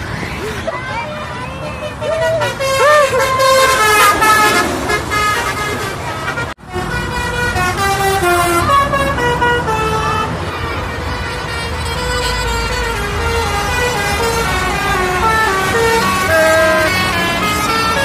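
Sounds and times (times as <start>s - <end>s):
bus engine running: 0.0s - 18.0s
tuned air horns playing tune: 2.2s - 18.0s.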